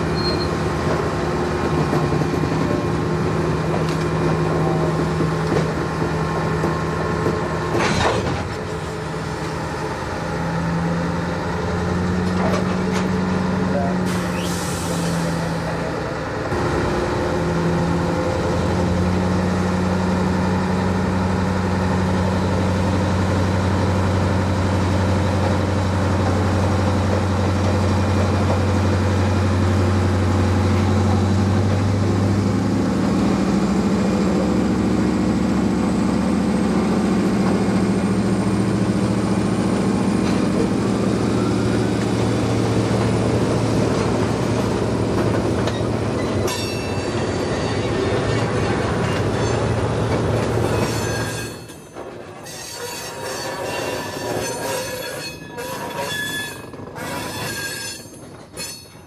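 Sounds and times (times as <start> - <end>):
locomotive diesel engines humming: 0.0 - 54.7.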